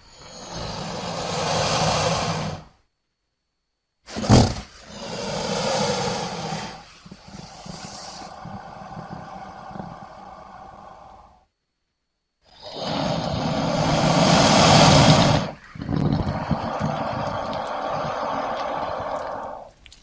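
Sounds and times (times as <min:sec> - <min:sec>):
crocodilian growling calls: 0:00.1 - 0:02.7, 0:04.3 - 0:11.4, 0:12.5 - 0:19.8.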